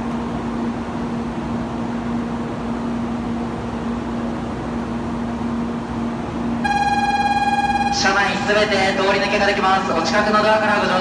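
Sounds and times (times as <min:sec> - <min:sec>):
train equipment humming: 0:00.1 - 0:11.0.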